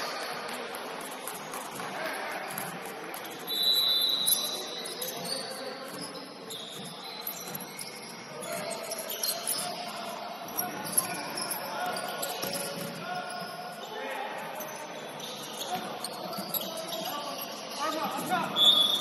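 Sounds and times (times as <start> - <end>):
shoe squeaks on gym floor: 1.3 - 19.0.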